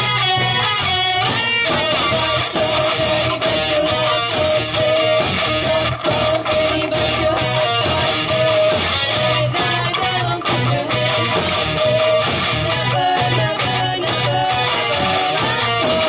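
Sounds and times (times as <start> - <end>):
bass guitar: 0.0 - 16.0
drum hits: 0.0 - 16.0
electric guitar melody: 0.0 - 16.0.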